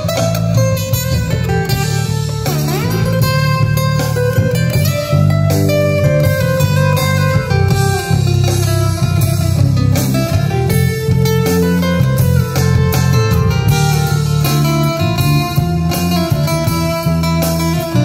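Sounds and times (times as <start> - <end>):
acoustic-electric guitar melody: 0.0 - 18.0
low bass line: 0.0 - 18.0.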